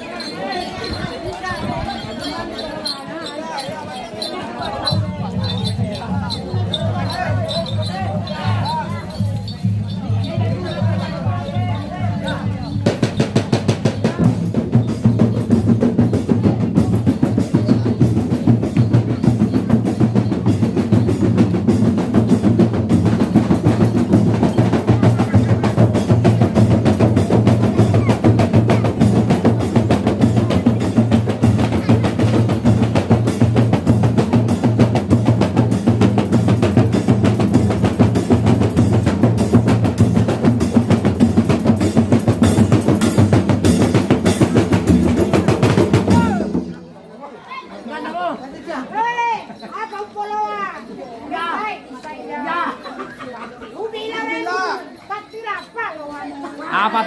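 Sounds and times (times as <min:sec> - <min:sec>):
frame drums playing fast rhythm: 0:00.0 - 0:46.8.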